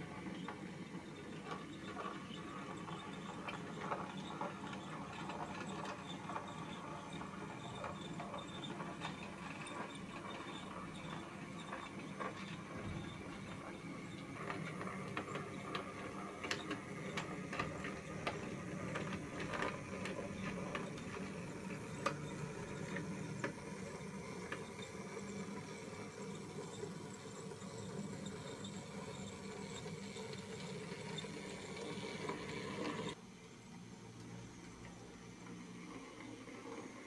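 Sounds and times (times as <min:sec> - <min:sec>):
wheels clicking over rails: 0:00.0 - 0:33.2.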